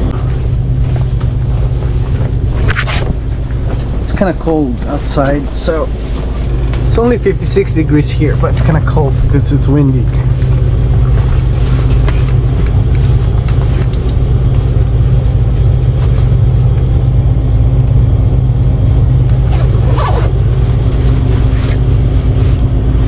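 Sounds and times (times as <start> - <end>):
diesel truck engine idling: 0.0 - 23.0
wind rumbling on microphone: 0.0 - 23.0.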